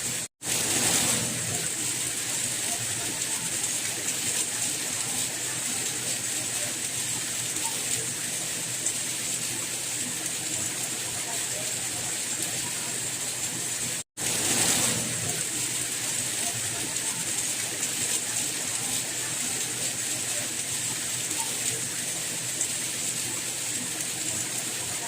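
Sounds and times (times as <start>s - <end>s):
hissing rain: 0.0s - 25.0s.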